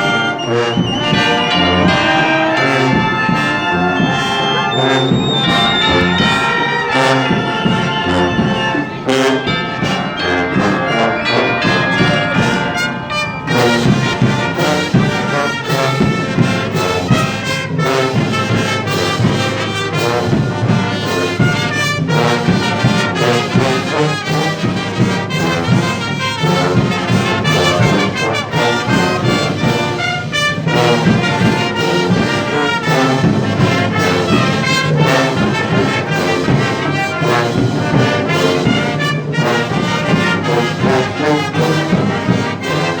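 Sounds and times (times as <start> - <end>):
brass band playing slow march: 0.0 - 43.0.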